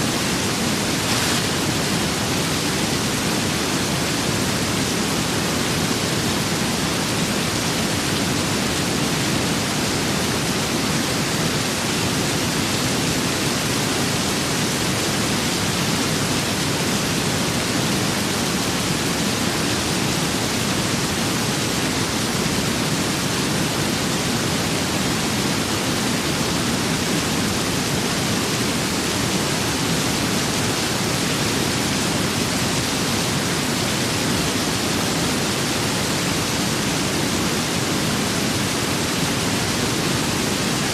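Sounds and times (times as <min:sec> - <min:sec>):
steady rain with wind: 0:00.0 - 0:40.9.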